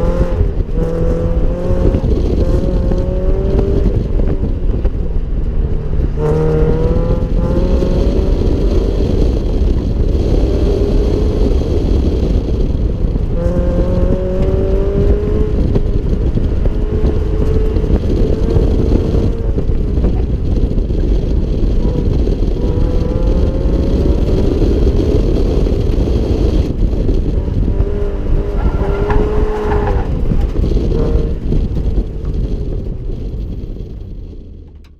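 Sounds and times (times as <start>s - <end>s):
car engine revving: 0.0s - 34.6s.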